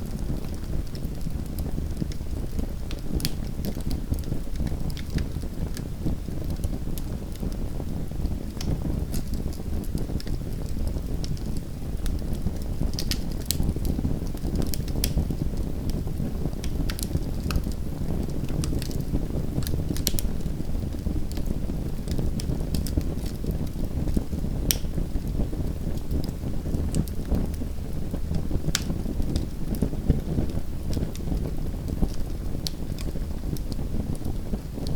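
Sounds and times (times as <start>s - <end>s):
low rumble of burning: 0.0s - 34.9s
wood fire crackling and popping: 0.0s - 34.9s.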